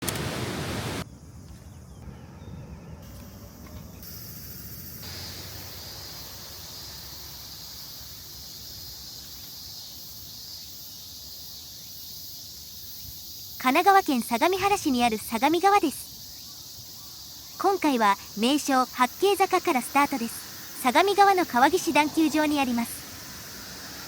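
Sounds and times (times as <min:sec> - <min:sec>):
insects chirping: 0:00.2 - 0:24.0.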